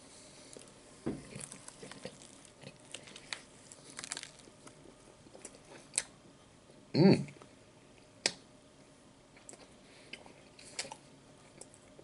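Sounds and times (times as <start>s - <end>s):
chewing with small crunches: 0.1s - 8.4s, 9.3s - 12.0s.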